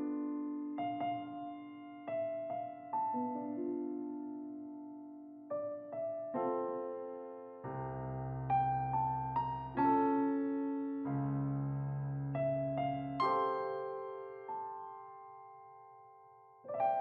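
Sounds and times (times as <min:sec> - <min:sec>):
keyboard piano music: 0:00.0 - 0:17.0.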